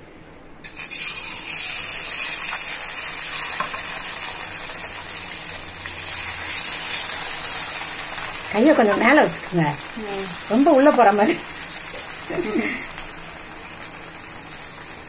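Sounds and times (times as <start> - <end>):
meat deep-frying in hot oil: 0.6 - 15.0.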